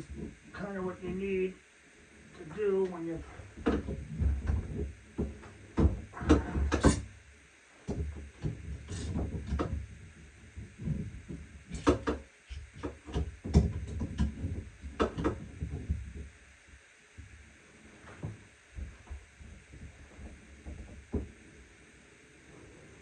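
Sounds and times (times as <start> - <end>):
knocks and scraping of plumbing work: 0.0 - 1.2, 3.2 - 21.8.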